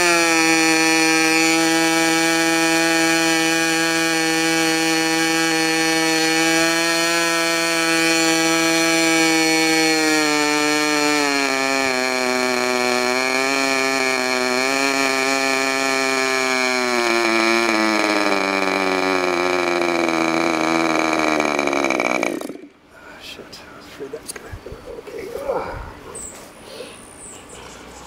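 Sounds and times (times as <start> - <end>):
model airplane engine buzzing: 0.0 - 22.7.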